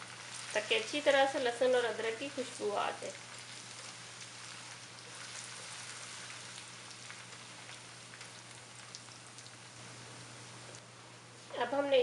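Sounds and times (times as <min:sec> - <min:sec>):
food sizzling in hot oil: 0:00.0 - 0:10.9.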